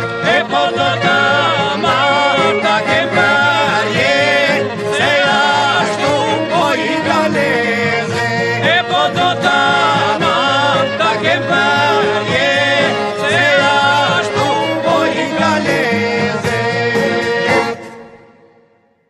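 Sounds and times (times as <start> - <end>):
folk song singing: 0.0 - 18.4
instrumental accompaniment: 0.0 - 19.0.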